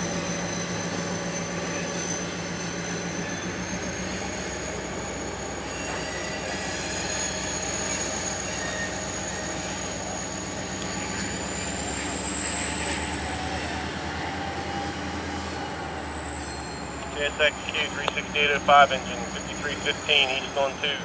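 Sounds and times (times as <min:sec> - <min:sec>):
high-pitched wheel squeal: 0:00.0 - 0:17.0
diesel locomotive engines humming: 0:00.0 - 0:21.0.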